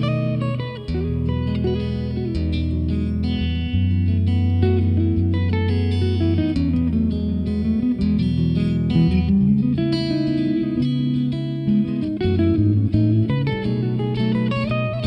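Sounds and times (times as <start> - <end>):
low bass line: 0.0 - 15.0
plucked guitar: 0.0 - 15.0.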